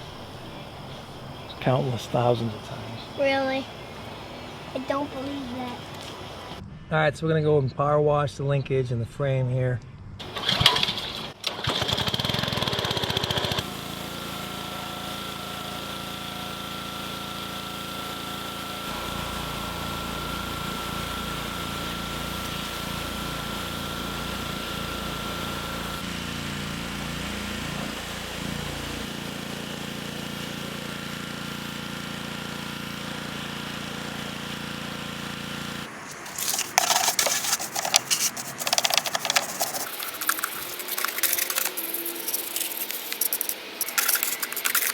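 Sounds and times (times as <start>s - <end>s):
pressure washer engine humming: 0.0s - 6.6s, 10.2s - 44.9s
pressure washer spray hissing: 0.0s - 6.6s, 12.7s - 44.9s.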